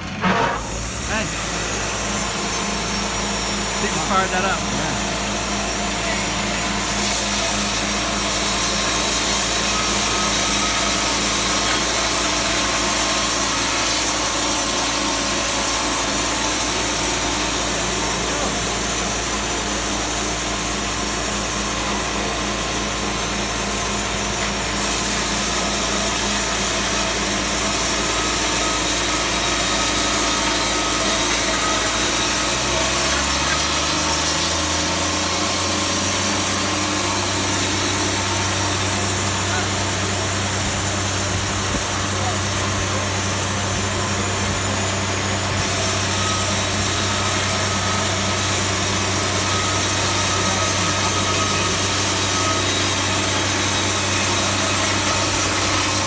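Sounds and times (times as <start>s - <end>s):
band saw cutting a log: 0.0s - 56.0s
sawmill engine: 0.0s - 56.0s.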